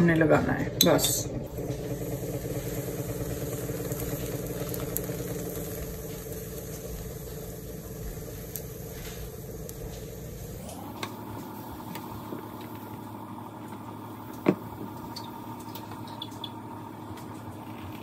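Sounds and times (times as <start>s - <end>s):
steady motor hum: 0.0s - 18.0s.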